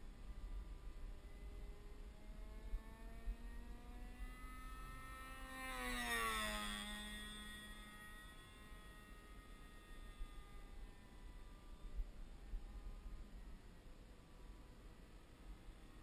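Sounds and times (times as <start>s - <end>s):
model plane engine running: 0.0s - 16.0s.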